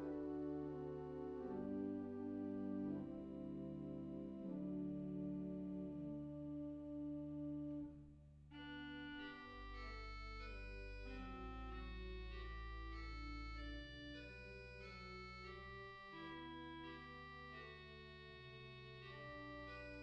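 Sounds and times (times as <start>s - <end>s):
organ playing slow chords: 0.0s - 20.0s.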